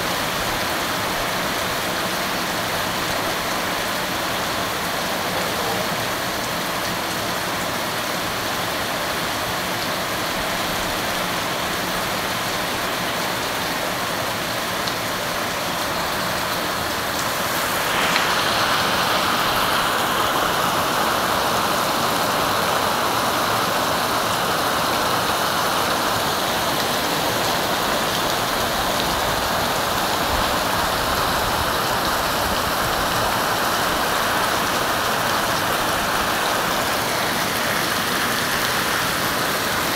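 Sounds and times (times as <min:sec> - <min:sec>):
heavy rain splashing on water: 0:00.0 - 0:39.9.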